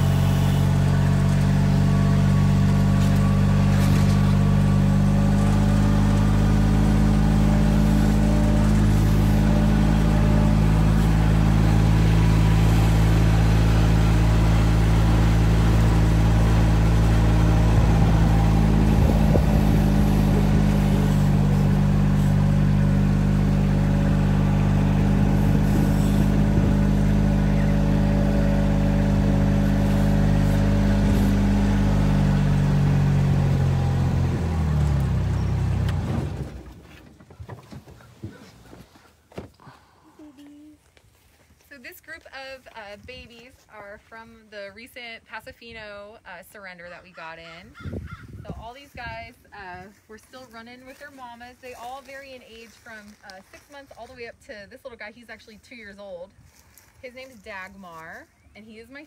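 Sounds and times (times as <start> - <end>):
vehicle engine running: 0.0 - 39.0, 39.6 - 59.0.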